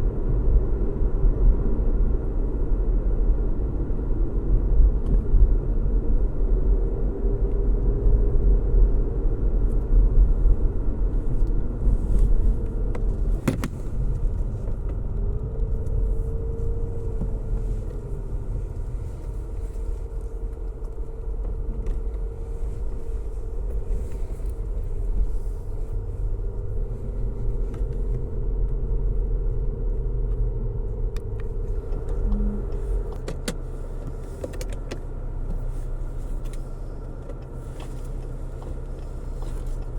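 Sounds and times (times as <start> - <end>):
car engine hum: 0.0 - 39.9
car road noise rumble: 0.0 - 39.9.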